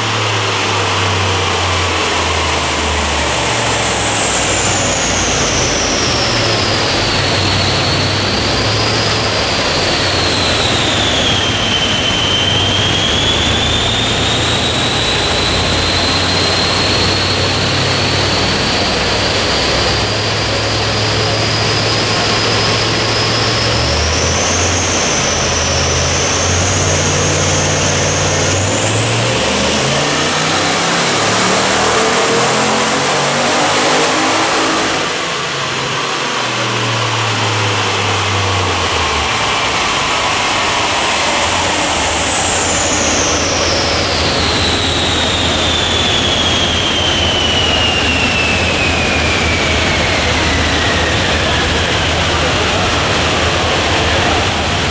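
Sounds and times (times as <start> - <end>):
high turbo whine: 0.0 - 54.9
loud car engine on dyno: 0.0 - 54.9.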